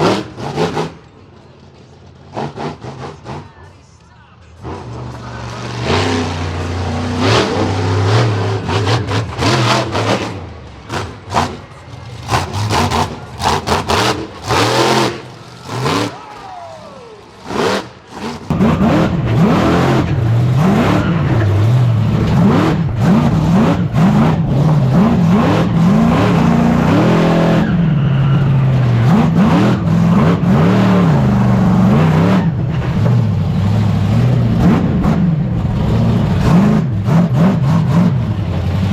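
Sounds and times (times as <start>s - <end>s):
monster truck engine revving: 0.0s - 3.8s, 4.5s - 38.9s.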